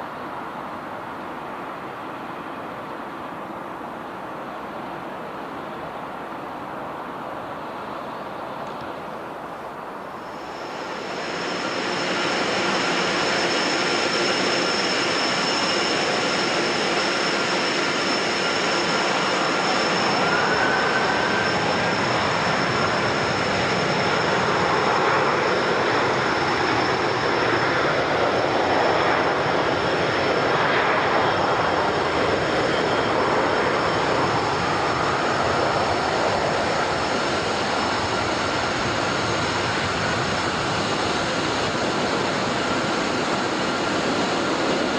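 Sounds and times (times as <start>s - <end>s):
jet airliner engines roaring: 0.0s - 44.9s.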